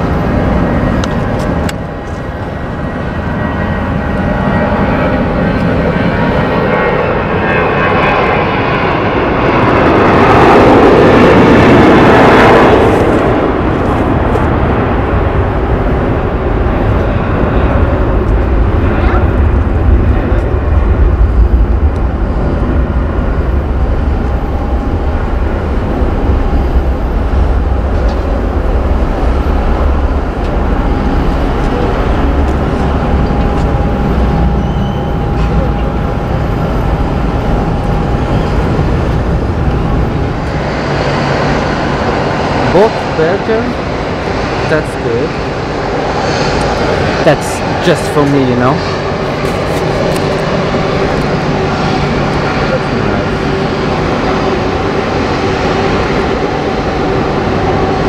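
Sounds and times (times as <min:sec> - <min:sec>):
jet engines at takeoff power: 0:00.0 - 0:58.0.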